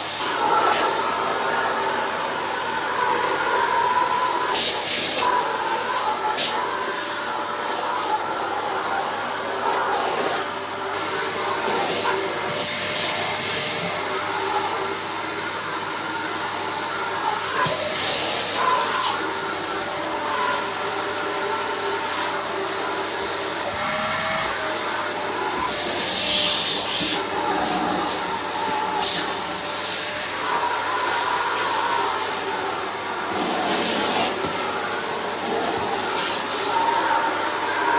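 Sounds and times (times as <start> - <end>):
vacuum cleaner running: 0.0 - 37.9.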